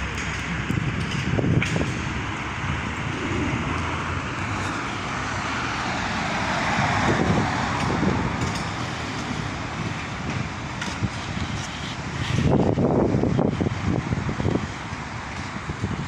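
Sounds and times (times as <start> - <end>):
heavy engine running: 0.0 - 16.0
noisy rush: 0.0 - 16.0.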